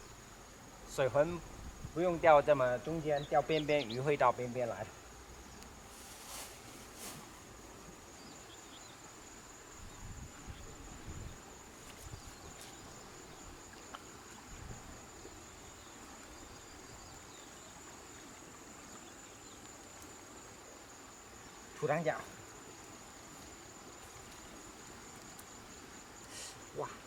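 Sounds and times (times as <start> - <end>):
insect trilling: 1.1 - 27.0.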